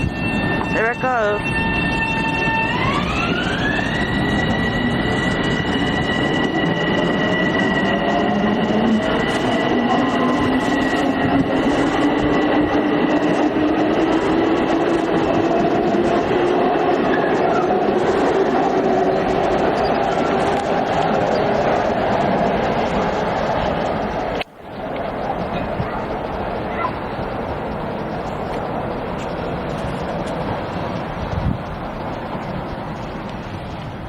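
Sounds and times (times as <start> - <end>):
traction motor whine: 0.0 - 30.8
wheel and rail rumble: 0.0 - 34.0.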